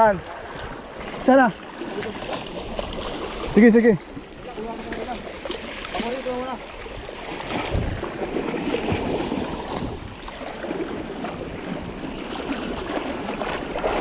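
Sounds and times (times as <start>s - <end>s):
low thuds of water: 0.0s - 14.0s
sea waves sloshing among rocks: 0.0s - 14.0s.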